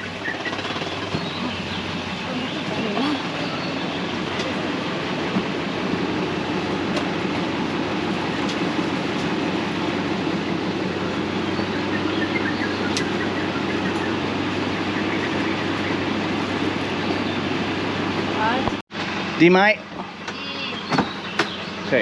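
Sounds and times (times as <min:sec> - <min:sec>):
van engine rumble from inside: 0:00.0 - 0:22.0.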